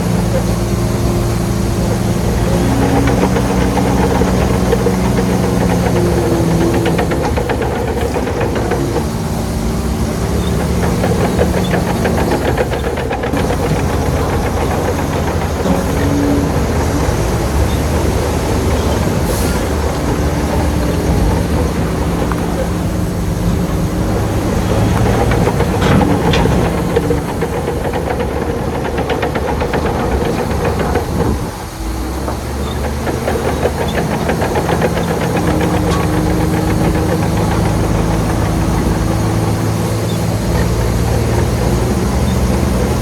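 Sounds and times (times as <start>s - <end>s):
heavy machinery diesel engine: 0.0s - 43.0s
rapid metallic clatter: 0.0s - 43.0s.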